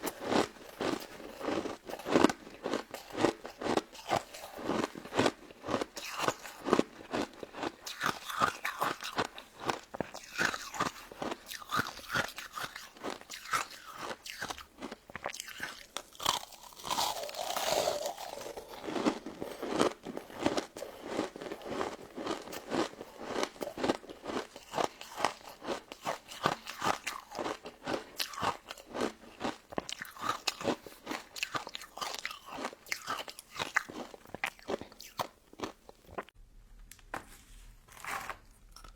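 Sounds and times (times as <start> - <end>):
crunching and chewing: 0.0 - 36.4.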